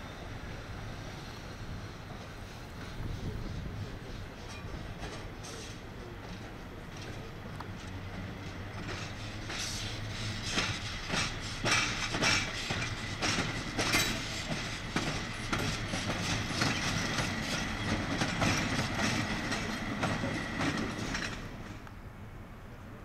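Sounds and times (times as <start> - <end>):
train wheels clattering over rail joints: 1.8 - 22.0.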